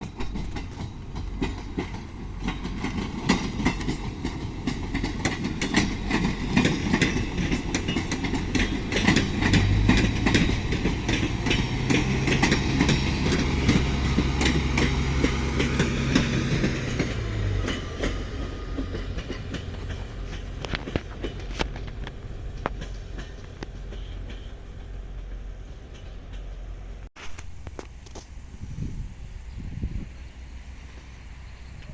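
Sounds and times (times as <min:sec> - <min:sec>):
train wheels clattering: 0:00.0 - 0:27.1
low hum from train: 0:00.0 - 0:31.9.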